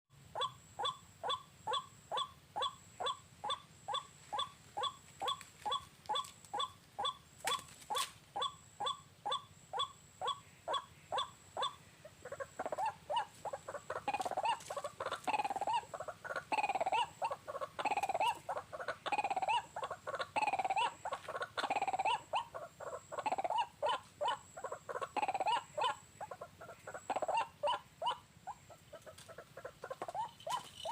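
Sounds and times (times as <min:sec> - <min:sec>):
waterhen calling: 0:00.4 - 0:30.9.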